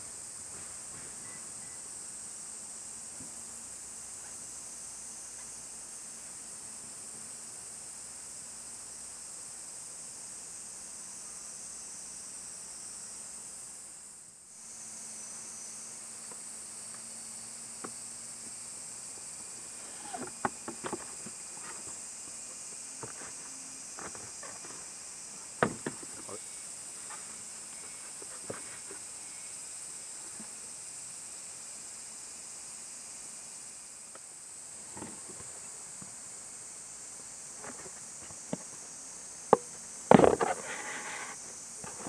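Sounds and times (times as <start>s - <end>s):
steady high hiss: 0.0s - 42.0s.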